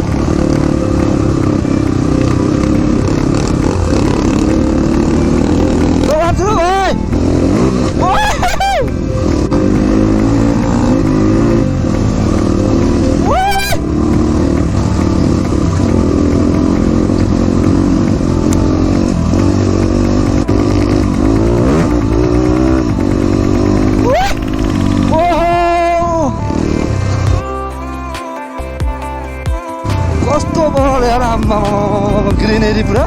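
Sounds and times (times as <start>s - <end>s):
dirt bike engine revving: 0.0s - 27.5s, 29.9s - 33.0s.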